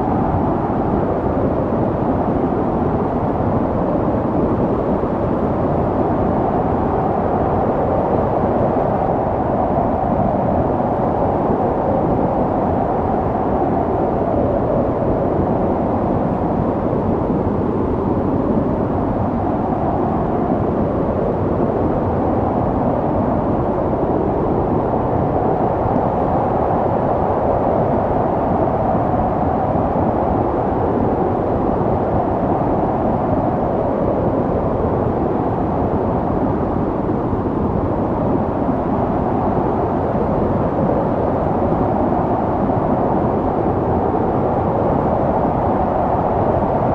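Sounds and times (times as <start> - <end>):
snow storm wind rushing: 0.0 - 46.9.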